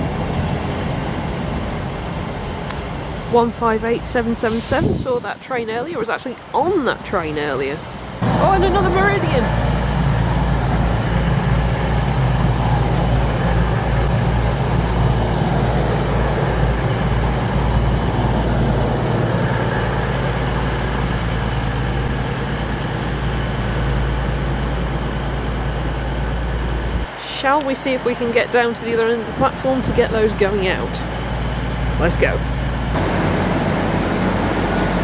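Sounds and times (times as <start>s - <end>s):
diesel train engine rumble: 0.0s - 35.0s
train wheels on rails: 0.0s - 35.0s.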